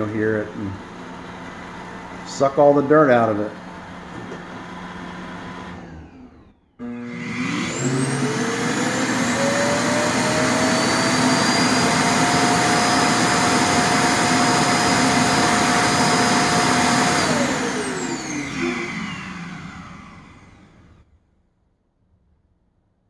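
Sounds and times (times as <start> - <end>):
suction motor rush and whine: 0.0 - 21.0.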